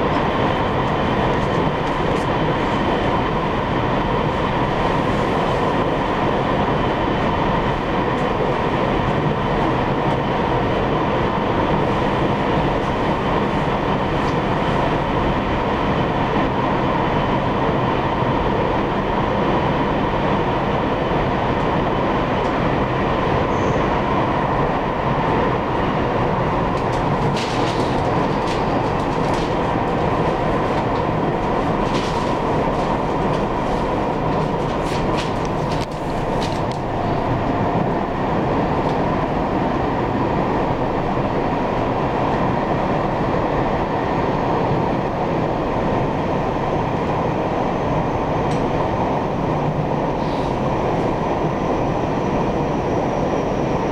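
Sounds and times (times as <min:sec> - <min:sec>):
train rolling rumble: 0:00.0 - 0:53.9.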